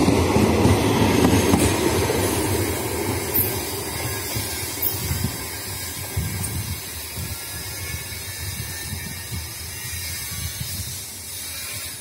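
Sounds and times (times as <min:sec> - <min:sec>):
train rumbling away: 0:00.0 - 0:12.0
steady hiss: 0:01.3 - 0:12.0.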